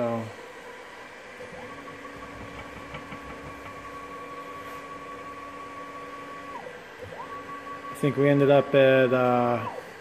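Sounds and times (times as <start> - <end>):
stepper motor whine: 0.0 - 10.0.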